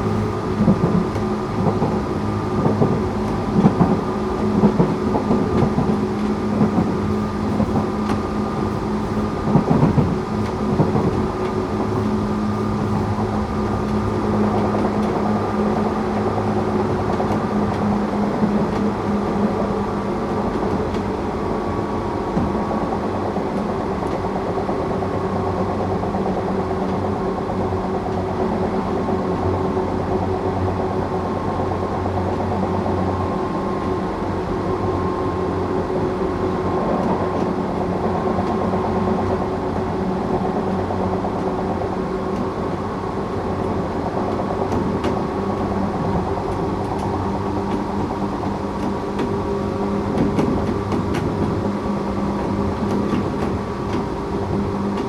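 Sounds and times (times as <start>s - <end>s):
electric train motor hum: 0.0s - 55.0s
wheels rumbling on rail: 0.0s - 55.0s.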